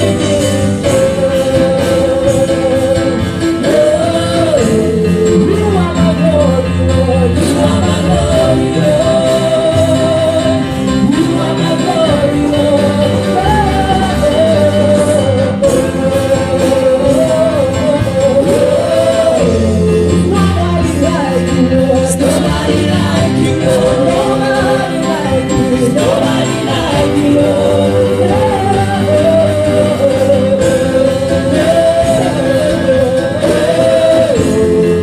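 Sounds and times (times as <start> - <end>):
held instrumental backing: 0.0 - 35.0
women singing gospel: 0.0 - 35.0.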